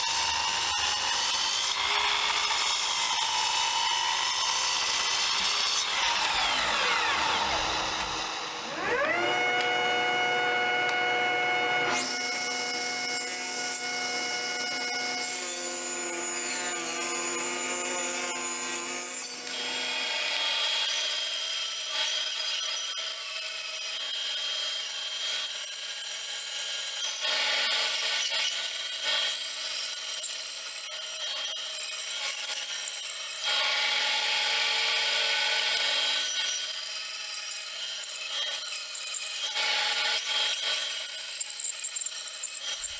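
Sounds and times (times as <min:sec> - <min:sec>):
band saw cutting wood: 0:00.0 - 0:42.9
table saw motor running: 0:00.0 - 0:42.9.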